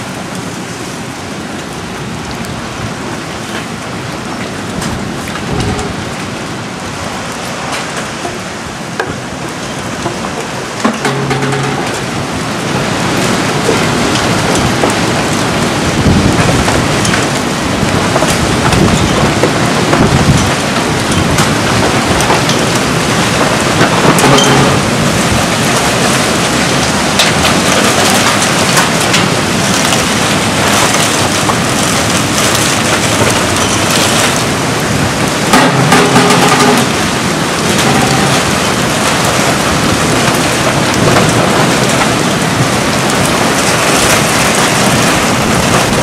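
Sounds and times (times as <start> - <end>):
heavy rain hissing: 0.0 - 46.0
hailstones ticking: 7.2 - 46.0.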